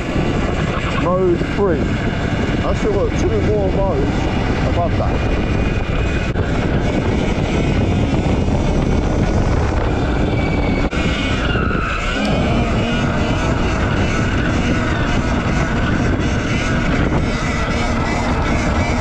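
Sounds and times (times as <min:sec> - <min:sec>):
electric motor whine: 0:00.0 - 0:19.0
wind noise on microphone: 0:00.0 - 0:19.0.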